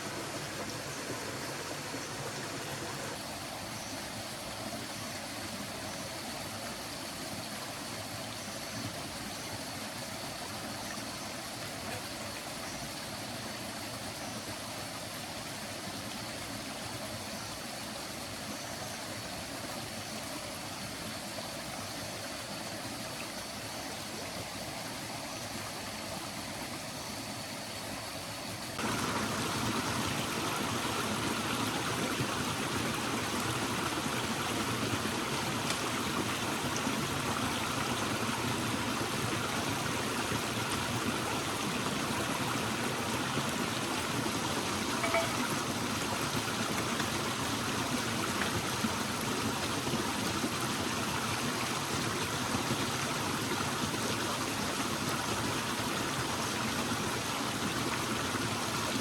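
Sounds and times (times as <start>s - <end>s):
stream rushing and gurgling: 0.0s - 59.0s.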